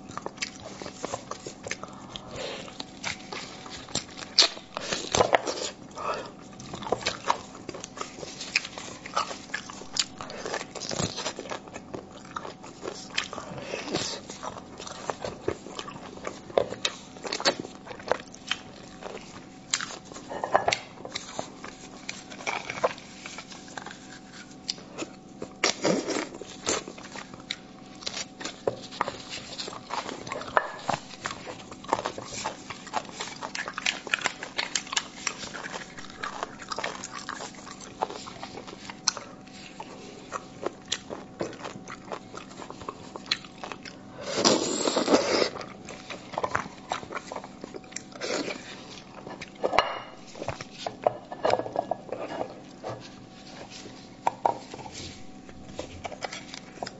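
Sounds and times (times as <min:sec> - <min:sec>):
wet chewing and slurping: 0:00.0 - 0:56.9.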